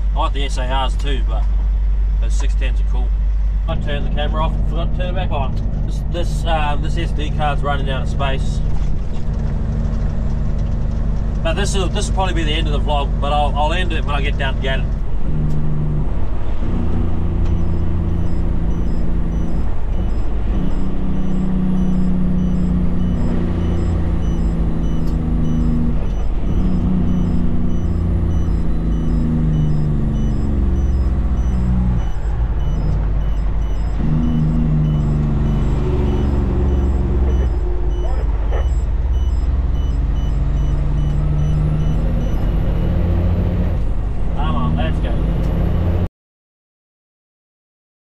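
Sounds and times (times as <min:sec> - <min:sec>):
diesel truck engine climbing through gears: 0:00.0 - 0:46.1.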